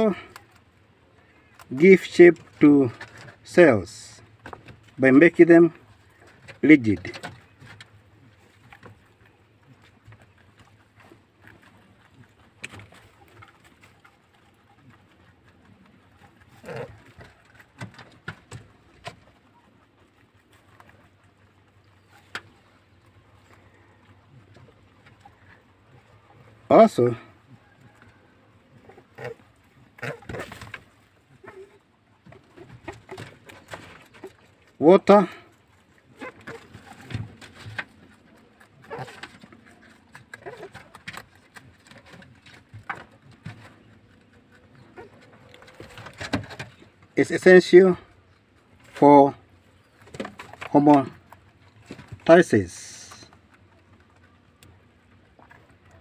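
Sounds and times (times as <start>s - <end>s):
faint rustling of grass: 0.0s - 56.0s
rabbits chewing grass: 0.0s - 56.0s.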